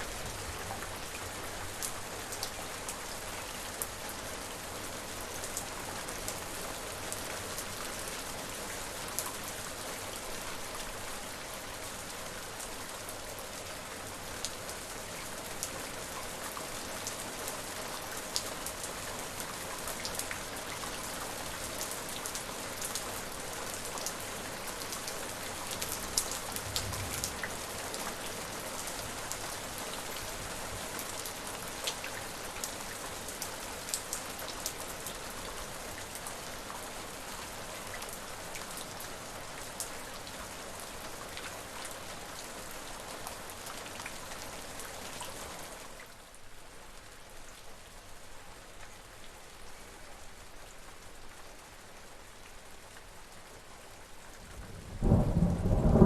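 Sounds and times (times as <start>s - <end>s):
raindrops pattering on surface: 0.0s - 56.0s
steady rain falling: 0.0s - 56.0s.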